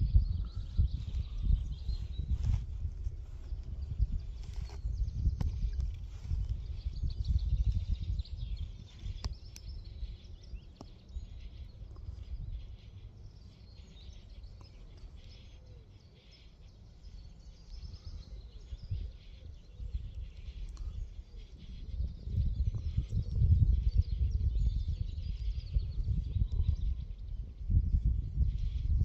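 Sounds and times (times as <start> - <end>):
wind buffeting microphone: 0.0 - 15.2, 17.1 - 29.0
small birds chirping: 0.0 - 29.0.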